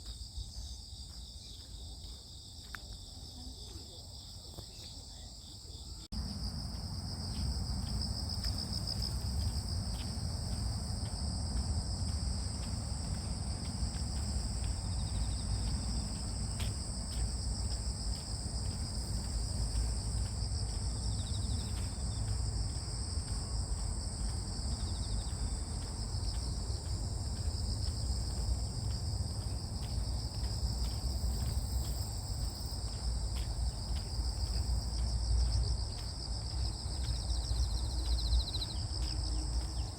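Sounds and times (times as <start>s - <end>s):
crickets and insects trilling: 0.0s - 39.9s
steady low rumble: 6.1s - 39.9s.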